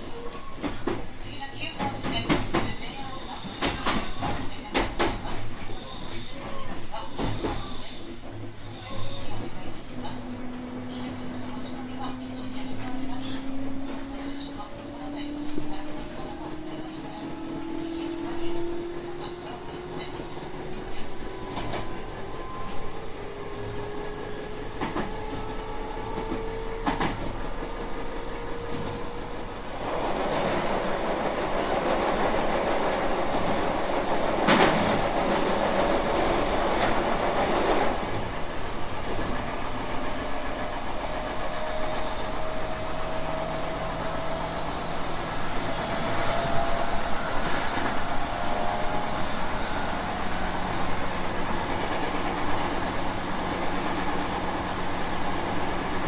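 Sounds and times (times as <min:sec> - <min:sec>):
rail-joint clicks: 0:00.0 - 0:56.0
wheels rumbling on rail: 0:00.0 - 0:56.0.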